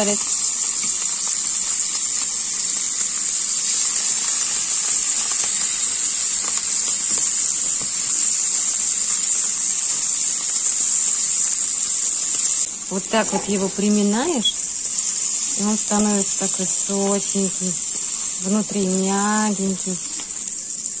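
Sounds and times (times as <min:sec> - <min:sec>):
cheese sizzling in oil: 0:00.0 - 0:21.0.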